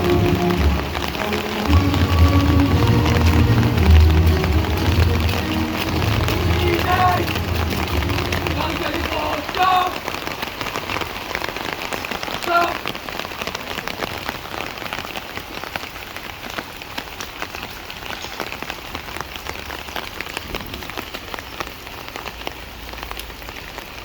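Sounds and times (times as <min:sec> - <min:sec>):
raindrops ticking: 0:00.0 - 0:24.0
steady rain: 0:00.0 - 0:24.0.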